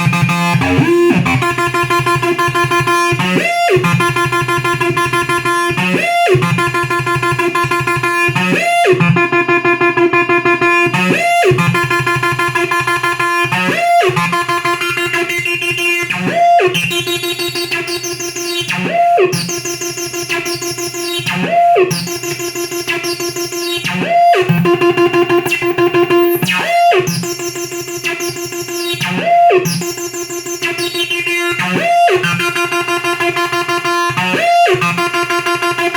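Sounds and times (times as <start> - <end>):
acid bass synthesizer pattern: 0.0 - 17.8, 18.4 - 35.9.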